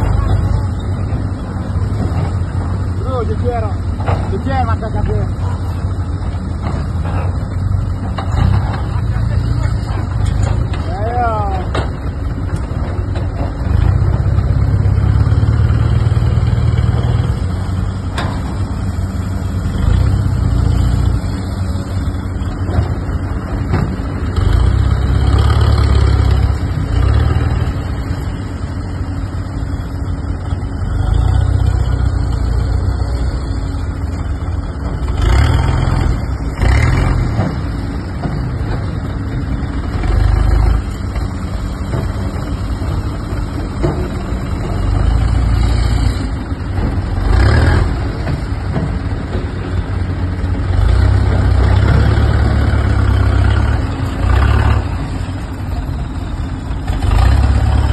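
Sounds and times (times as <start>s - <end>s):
heavy machine engine revving: 0.0s - 57.9s.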